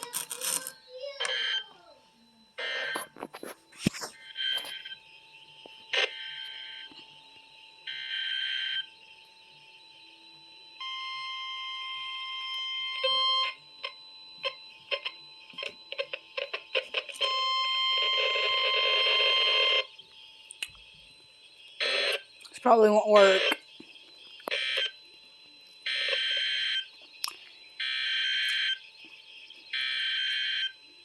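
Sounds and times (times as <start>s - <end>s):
warning alarm tone: 0.0s - 31.0s.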